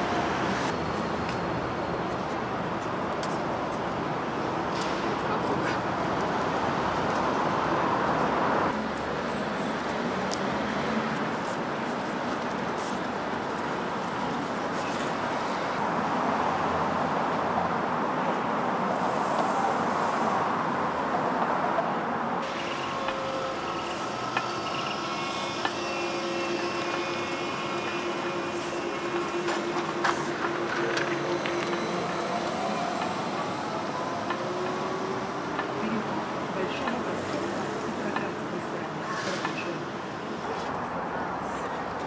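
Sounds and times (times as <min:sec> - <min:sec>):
city traffic: 0:00.0 - 0:42.0
trolleybus electric hum: 0:00.0 - 0:42.0.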